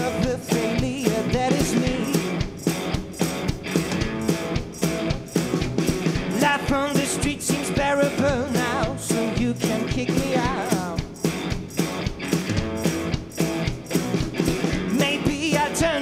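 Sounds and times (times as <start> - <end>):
drums steady beat: 0.0 - 16.0
garage rock band playing: 0.0 - 16.0.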